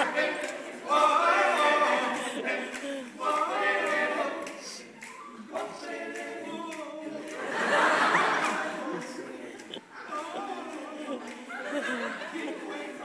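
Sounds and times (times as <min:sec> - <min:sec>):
male group singing in harmony: 0:00.0 - 0:13.0.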